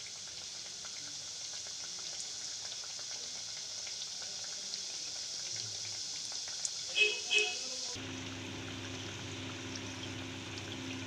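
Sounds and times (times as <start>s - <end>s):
dumplings sizzling in hot oil: 0.0s - 11.0s.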